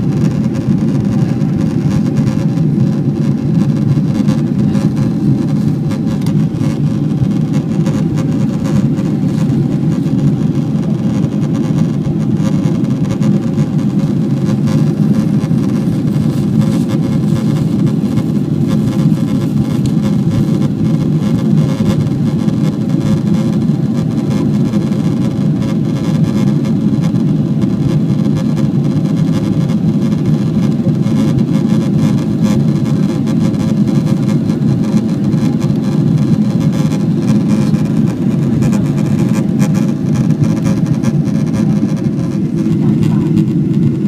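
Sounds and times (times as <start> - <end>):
jet engine drone: 0.0 - 44.0.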